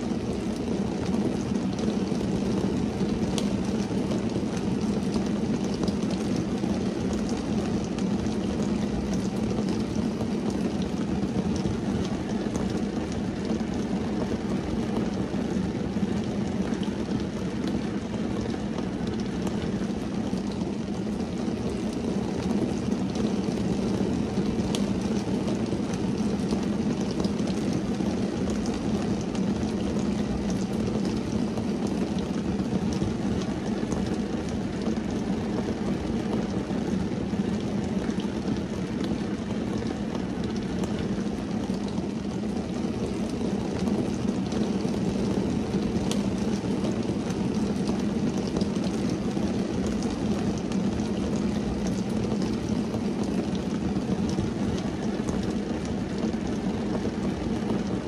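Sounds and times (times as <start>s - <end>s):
rain on car windshield: 0.0s - 58.0s
raindrop taps: 3.4s - 15.7s, 21.7s - 37.0s, 37.8s - 57.9s.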